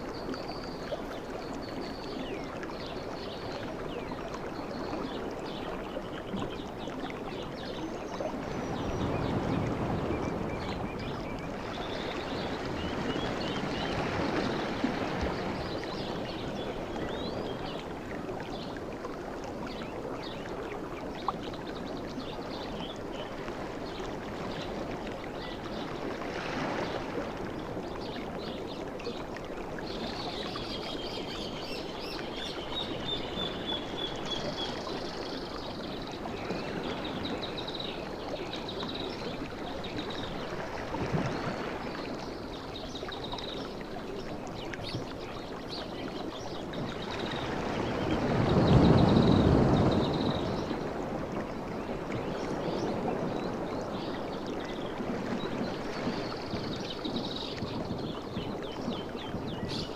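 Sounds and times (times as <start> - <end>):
sea waves washing on beach: 1.0 - 59.9.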